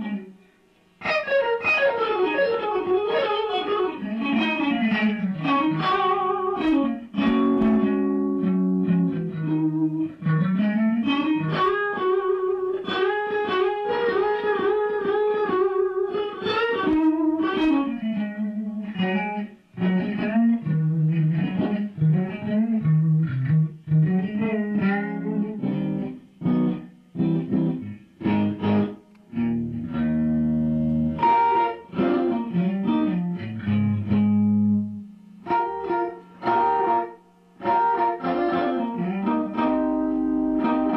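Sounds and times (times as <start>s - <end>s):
solo electric guitar: 0.0s - 40.9s.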